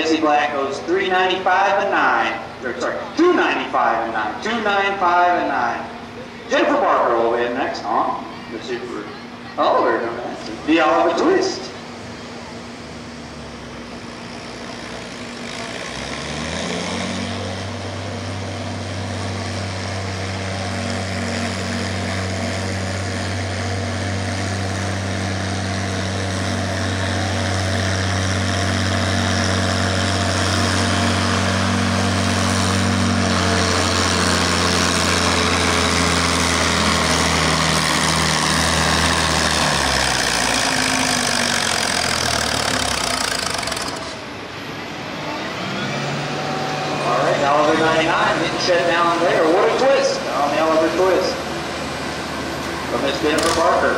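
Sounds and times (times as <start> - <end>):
tractor engine droning: 0.0 - 53.9.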